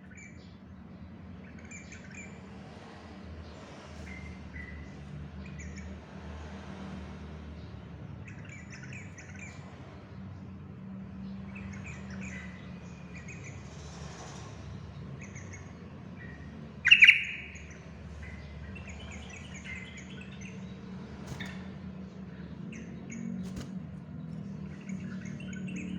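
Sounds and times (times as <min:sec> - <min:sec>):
bird chirping song: 0:00.0 - 0:02.5, 0:03.4 - 0:06.0, 0:07.6 - 0:13.8, 0:14.6 - 0:25.9.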